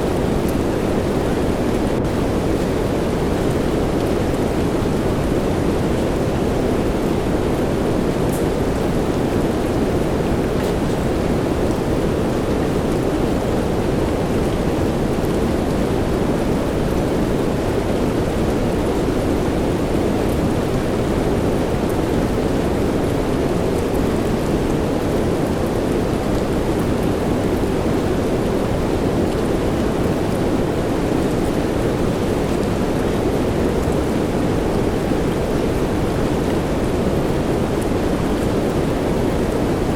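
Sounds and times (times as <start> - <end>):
steady soft rain: 0.0 - 39.9.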